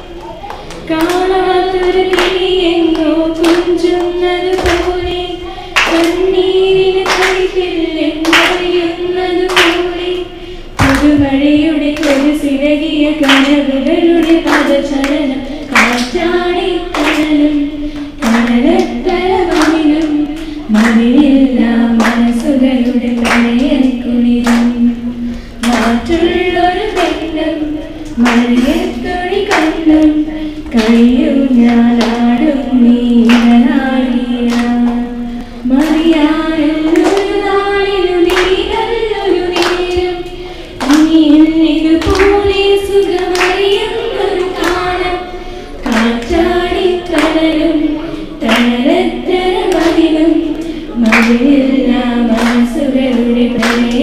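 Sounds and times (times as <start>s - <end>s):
girls singing together: 0.0s - 54.0s
sharp hand claps: 0.2s - 5.2s, 5.8s - 6.4s, 7.0s - 8.8s, 9.4s - 10.1s, 10.8s - 12.4s, 13.2s - 24.9s, 25.6s - 32.4s, 33.2s - 33.8s, 34.4s - 37.5s, 38.2s - 41.4s, 42.0s - 45.0s, 45.8s - 47.7s, 48.4s - 49.0s, 49.6s - 51.6s, 52.3s - 54.0s.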